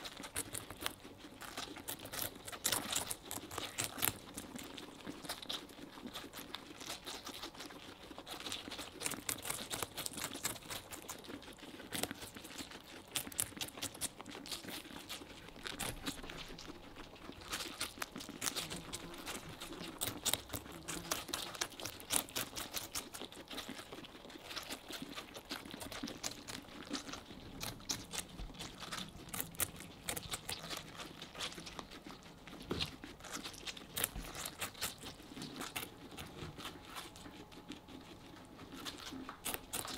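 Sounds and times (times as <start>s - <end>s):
guinea pigs chewing watermelon: 0.0s - 39.9s.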